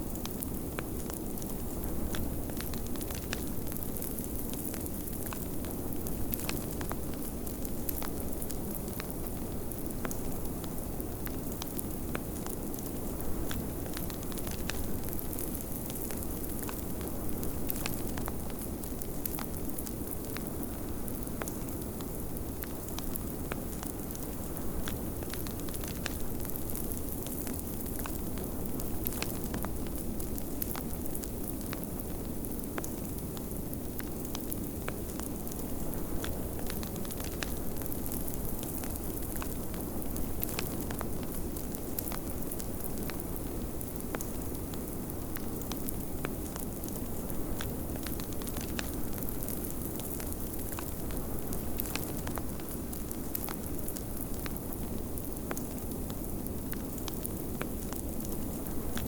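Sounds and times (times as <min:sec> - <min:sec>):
fireplace fire crackling: 0:00.0 - 0:59.0.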